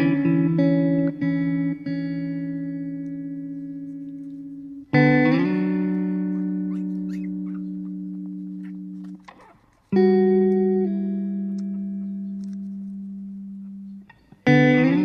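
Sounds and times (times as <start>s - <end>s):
plucked guitar chords: 0.0s - 15.0s.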